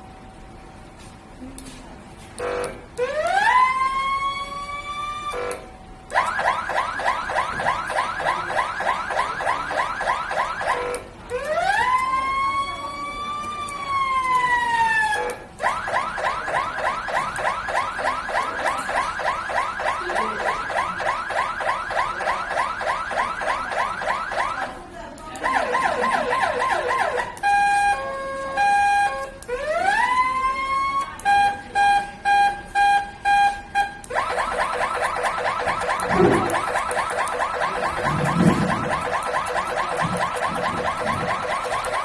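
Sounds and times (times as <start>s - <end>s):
electronic police siren: 2.4s - 42.0s.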